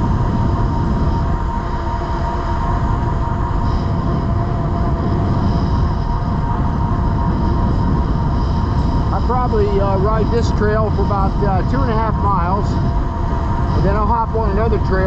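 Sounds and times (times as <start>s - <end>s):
electric motor whine: 0.0s - 15.0s
wind rushing over microphone: 0.0s - 15.0s.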